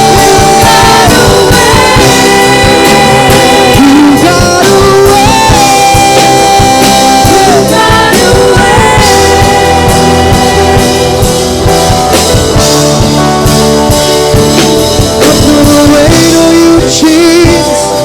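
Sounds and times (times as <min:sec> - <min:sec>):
drums: 0:00.0 - 0:18.0
worship band music: 0:00.0 - 0:18.0.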